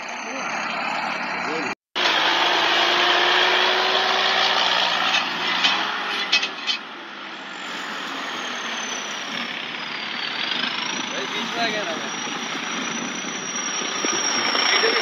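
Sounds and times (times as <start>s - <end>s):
tractor diesel engine running hard: 0.0s - 15.0s.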